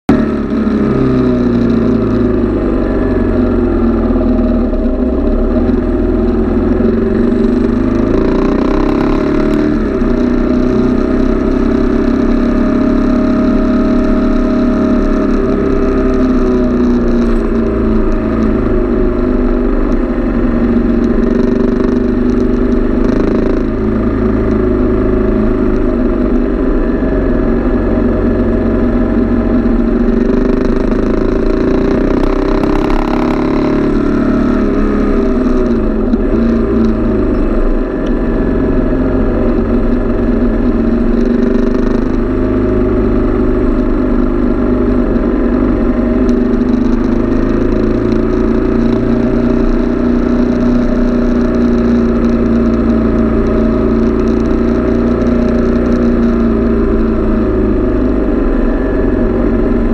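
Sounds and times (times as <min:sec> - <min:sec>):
motorcycle engine at speed: 0:00.0 - 0:59.9
rush of noise: 0:00.1 - 0:59.9.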